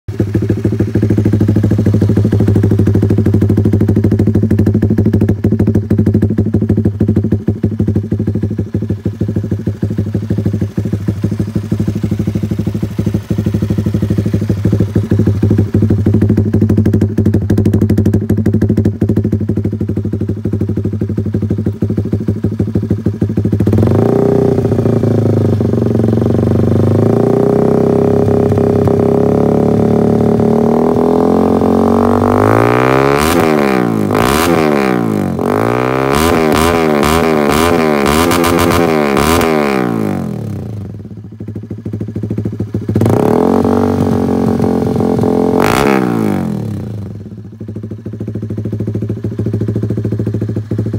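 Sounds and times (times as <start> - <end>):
motorcycle engine idling and revving: 0.0 - 50.9.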